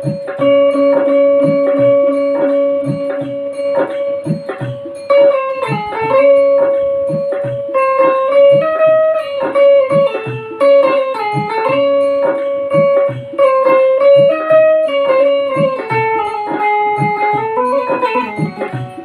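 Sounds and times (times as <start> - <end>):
banjo playing a melody: 0.0 - 19.0.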